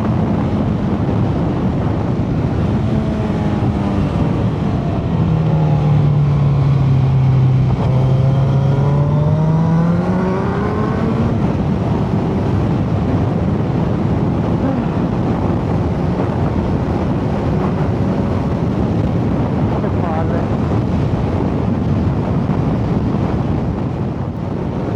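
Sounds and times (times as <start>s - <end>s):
motorcycle engine: 0.0s - 20.0s
steady rushing noise: 0.0s - 24.9s.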